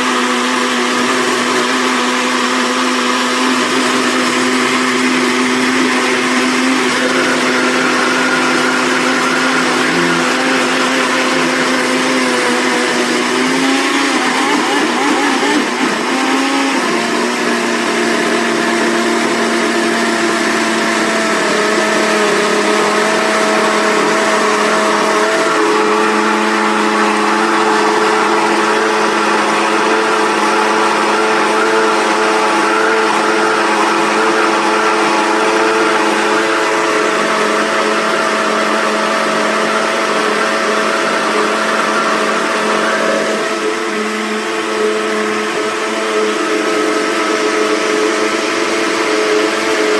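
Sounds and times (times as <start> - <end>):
blender motor running: 0.0 - 49.9.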